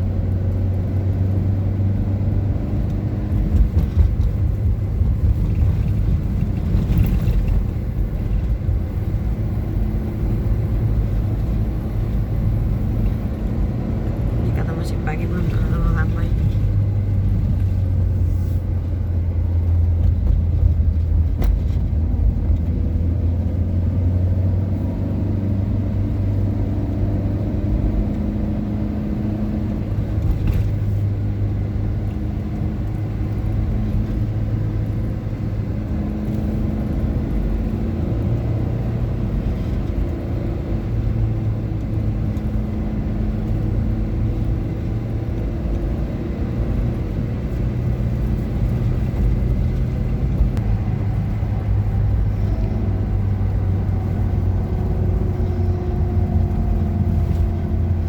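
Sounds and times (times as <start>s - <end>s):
car engine hum while driving: 0.0s - 58.0s.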